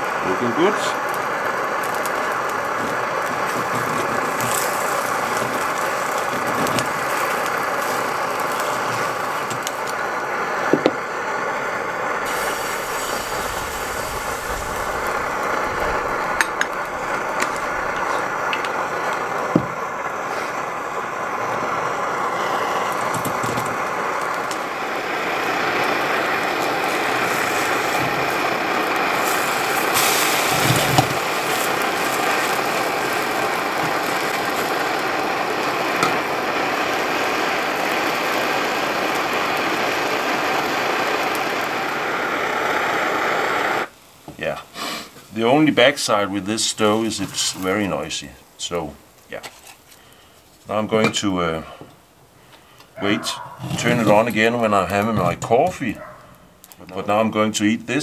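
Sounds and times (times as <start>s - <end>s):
stove burning with rushing hiss: 0.0s - 58.0s.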